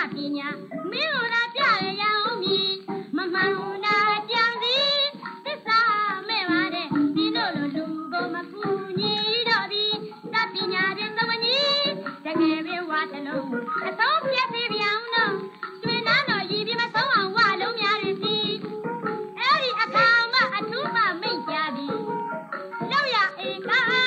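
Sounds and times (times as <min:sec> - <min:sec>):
woman singing with vibrato: 0:00.0 - 0:18.8, 0:19.4 - 0:24.0
instrumental accompaniment: 0:00.0 - 0:24.0.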